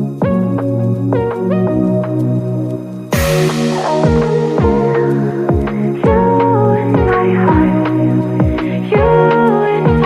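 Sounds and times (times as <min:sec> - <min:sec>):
sustained synth chords: 0:00.0 - 0:10.0
steady kick drum beat: 0:00.2 - 0:02.4, 0:03.1 - 0:10.0.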